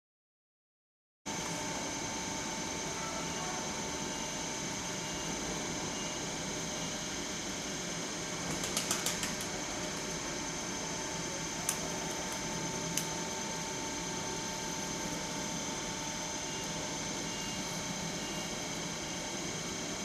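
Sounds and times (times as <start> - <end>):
train electrical hum: 1.3 - 20.0.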